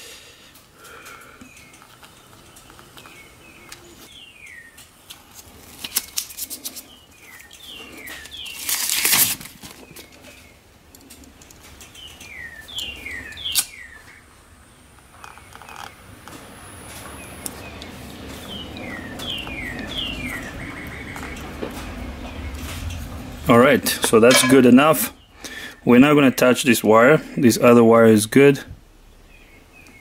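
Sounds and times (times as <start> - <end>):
small birds singing: 0.8 - 5.0, 5.8 - 9.0, 9.7 - 16.1, 17.0 - 30.0.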